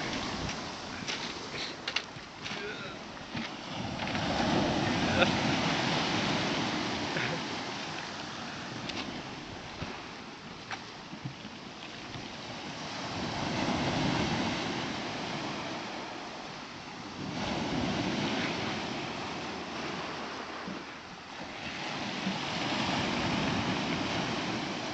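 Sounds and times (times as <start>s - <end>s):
sea waves washing ashore: 0.0s - 24.9s.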